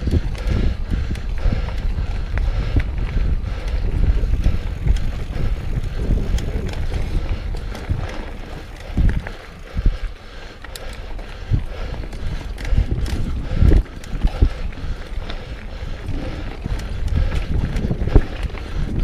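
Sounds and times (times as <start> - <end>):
bike knocking and rattling: 0.0 - 19.0
bike tyres rumbling over dirt: 0.0 - 19.0
wind on microphone: 0.0 - 19.0.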